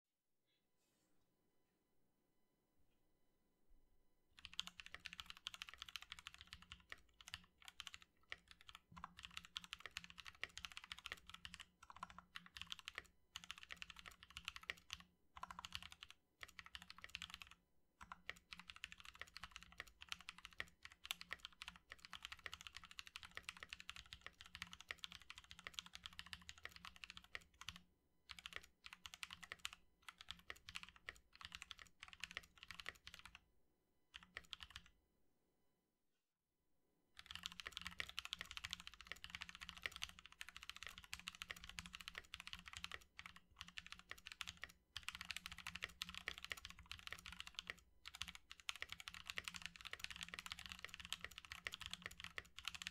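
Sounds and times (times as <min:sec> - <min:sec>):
mechanical keyboard typing: 0:04.4 - 0:33.4, 0:34.1 - 0:34.9, 0:37.2 - 0:52.9.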